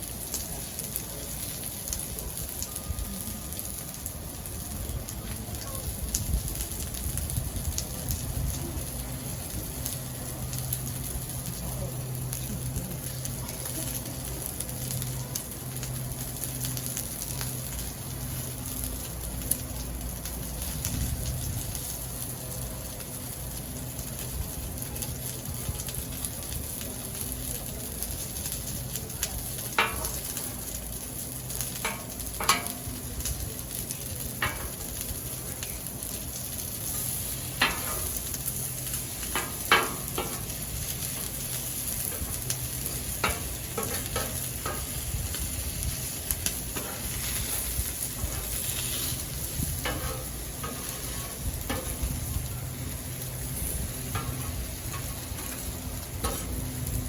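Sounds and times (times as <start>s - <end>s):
sizzling on a griddle: 0.0s - 57.0s.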